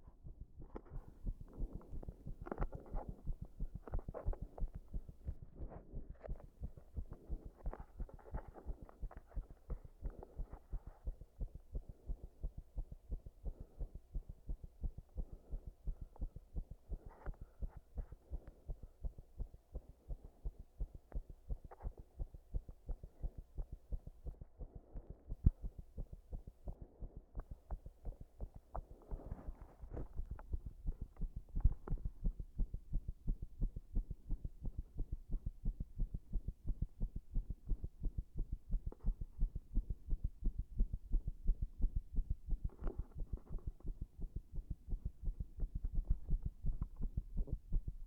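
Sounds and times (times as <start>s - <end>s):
heartbeat thumps: 0.0s - 48.0s.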